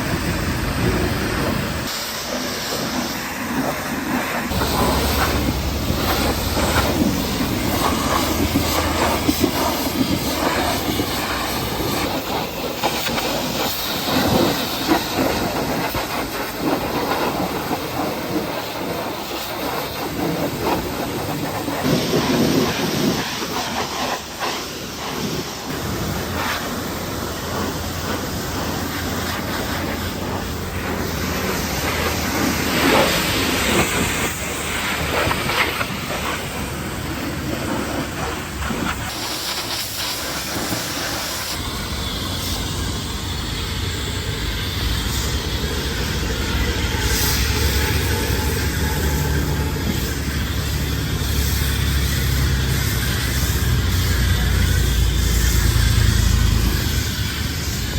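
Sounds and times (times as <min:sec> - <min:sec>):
pressure washer spray hissing: 0:00.0 - 0:57.9.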